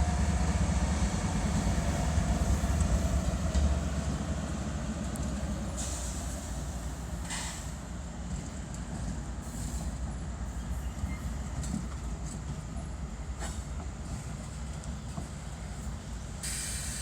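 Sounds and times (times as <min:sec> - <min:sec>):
diesel locomotives rumbling past: 0:00.0 - 0:17.0.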